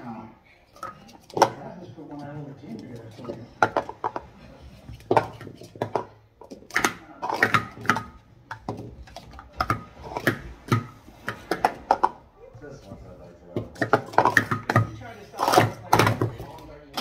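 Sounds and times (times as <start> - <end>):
plastic cups clacking: 0.7 - 12.4, 13.5 - 17.0.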